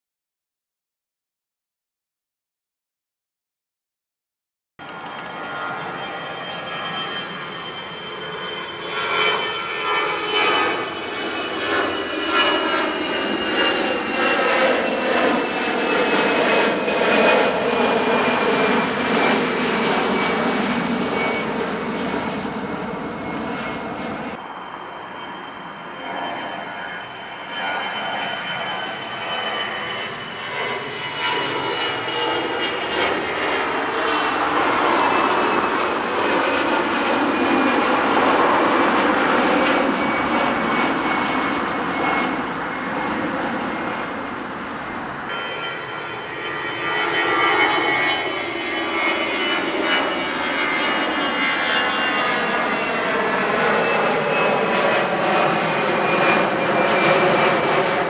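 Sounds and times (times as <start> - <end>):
jet engines roaring and whining: 4.8 - 58.0.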